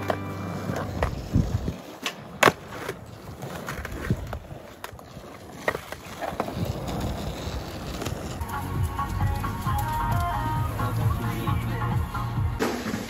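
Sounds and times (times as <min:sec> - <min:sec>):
skateboard clacking: 0:00.0 - 0:13.0
skateboard wheels rolling: 0:00.0 - 0:13.0.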